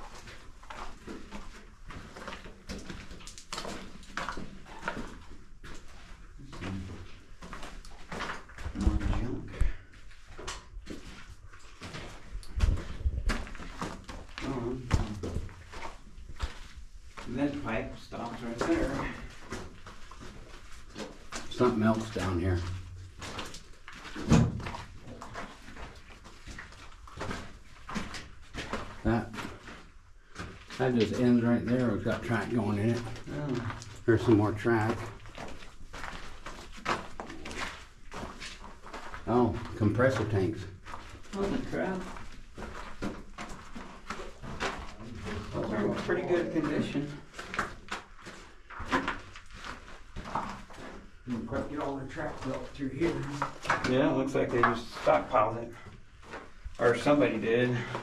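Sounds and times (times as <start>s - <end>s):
footsteps on rocky floor: 0.0s - 58.0s.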